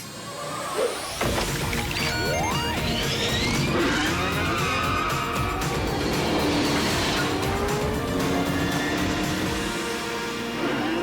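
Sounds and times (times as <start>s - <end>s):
cartoon background music: 0.8s - 11.0s
car engine noise: 1.2s - 11.0s.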